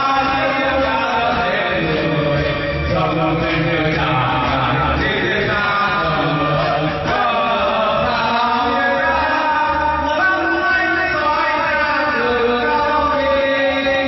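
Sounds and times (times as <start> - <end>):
group singing loudly: 0.0 - 14.0
karaoke backing music: 0.0 - 14.0.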